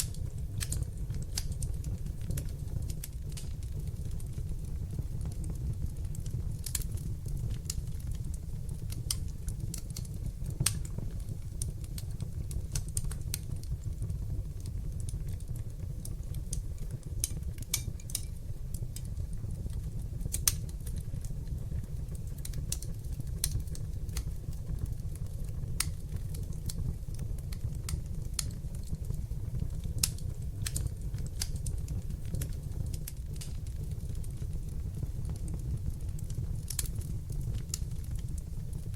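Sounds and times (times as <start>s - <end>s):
fire crackling and popping: 0.0s - 38.9s
flames rumbling: 0.0s - 38.9s.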